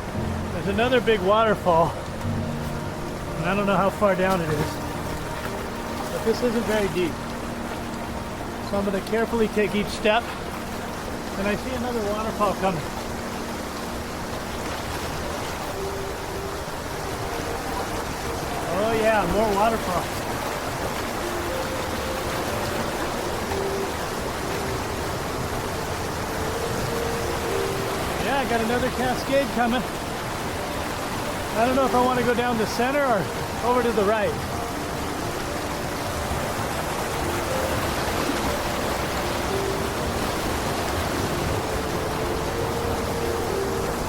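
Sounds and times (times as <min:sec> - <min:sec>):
creek rushing over rocks: 0:00.0 - 0:44.0.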